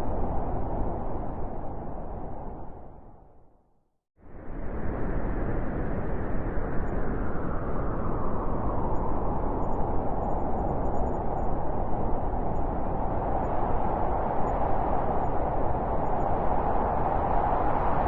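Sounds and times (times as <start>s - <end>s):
blizzard wind rushing: 0.0s - 3.2s, 4.3s - 18.0s.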